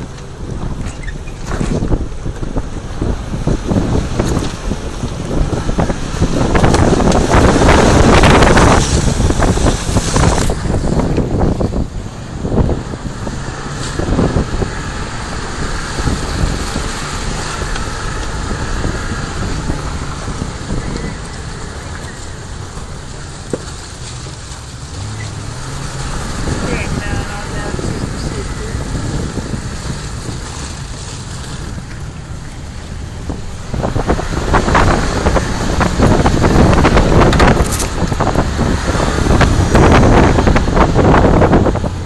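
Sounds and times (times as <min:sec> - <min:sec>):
crackling and scraping over branches: 0:00.0 - 0:42.0
vehicle engine running at low speed: 0:00.0 - 0:42.0.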